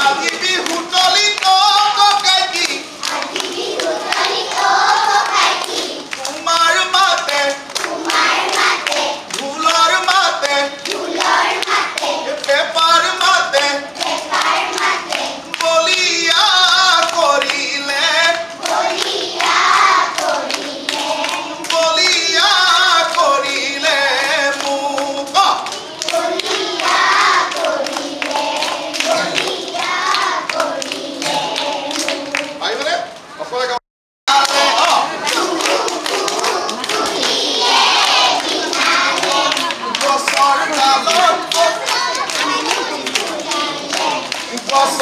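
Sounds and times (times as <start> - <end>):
people singing folk song together: 0.0 - 32.7, 34.3 - 45.0
rhythmic hand clapping: 0.0 - 32.9, 34.3 - 45.0.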